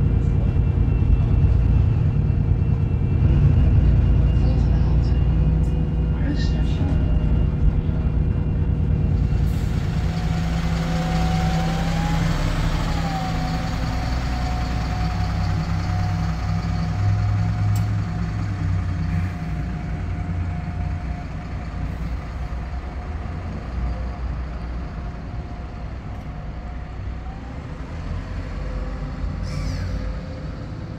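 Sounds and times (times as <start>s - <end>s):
bus engine drone: 0.0s - 30.9s.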